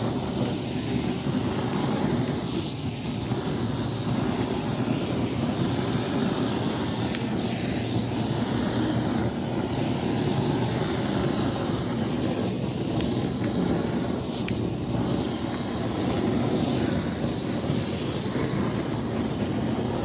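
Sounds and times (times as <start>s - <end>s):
flame gun roaring: 0.0s - 20.0s.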